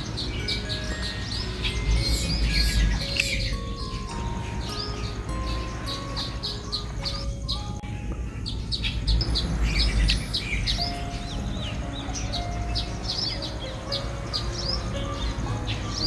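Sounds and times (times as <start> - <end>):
small birds chirping: 0.0 - 16.0
soft background music: 0.0 - 16.0.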